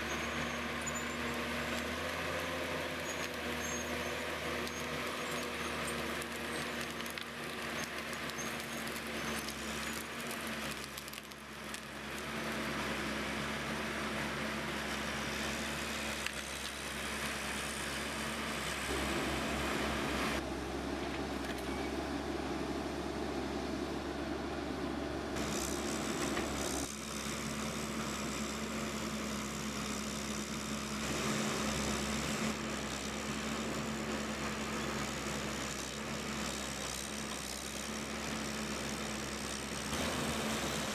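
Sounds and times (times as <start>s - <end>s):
heavy machinery engines humming: 0.0s - 40.9s.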